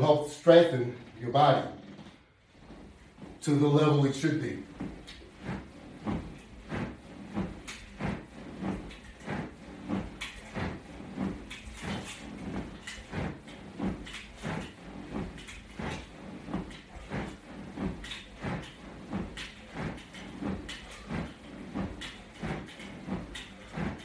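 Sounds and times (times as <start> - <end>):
rhythmic sit-up thumps on mat: 0.0 - 24.0.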